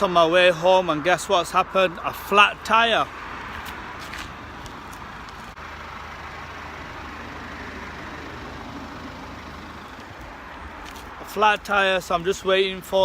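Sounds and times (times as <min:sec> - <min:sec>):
motor vehicle noise: 0:00.0 - 0:13.0.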